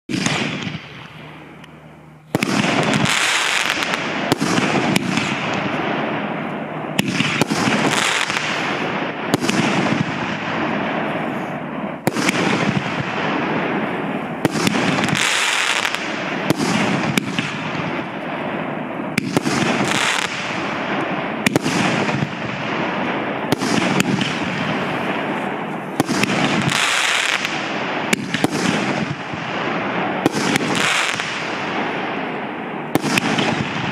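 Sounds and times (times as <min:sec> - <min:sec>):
firework bangs: 0:00.1 - 0:01.5, 0:02.3 - 0:33.9.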